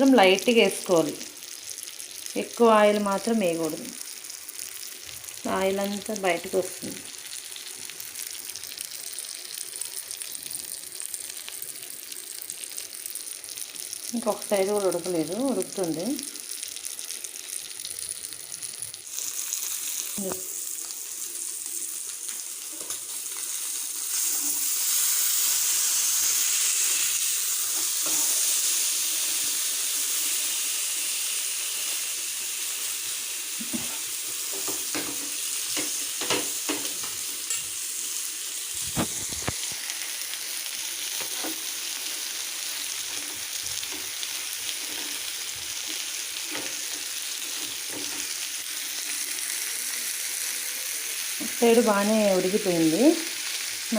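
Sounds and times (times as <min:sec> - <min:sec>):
fish sizzling on a griddle: 0:00.0 - 0:53.9.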